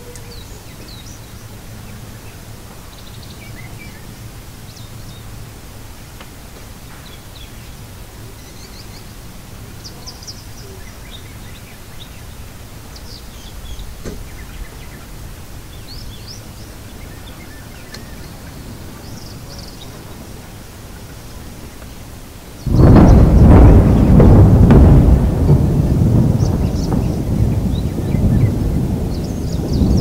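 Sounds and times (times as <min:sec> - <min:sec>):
small birds chirping: 0:00.0 - 0:05.5, 0:06.8 - 0:30.0
low background hiss: 0:00.0 - 0:30.0.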